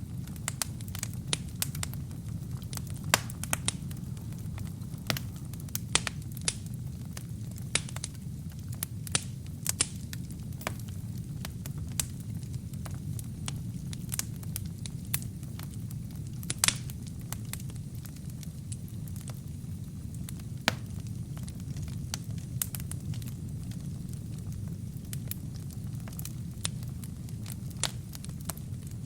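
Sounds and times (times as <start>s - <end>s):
burning logs crackling and popping: 0.0s - 29.0s
fire flames rumbling: 0.0s - 29.0s.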